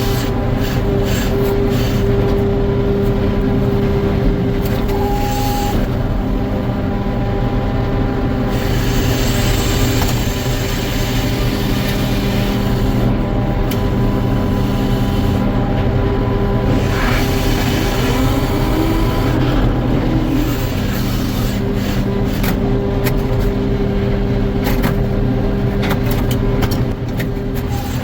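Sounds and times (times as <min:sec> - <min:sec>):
sawmill machinery drone: 0:00.0 - 0:28.0.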